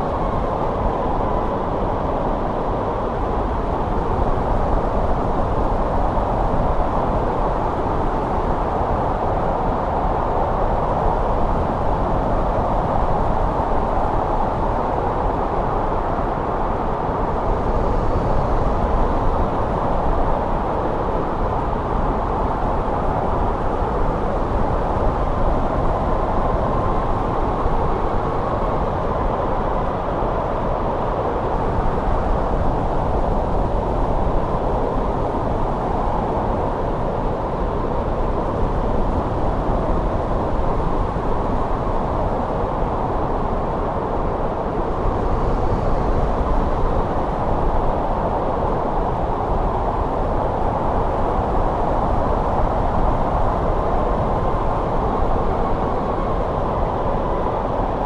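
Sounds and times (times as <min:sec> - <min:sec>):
wind blowing with faint whistle: 0:00.0 - 0:58.0.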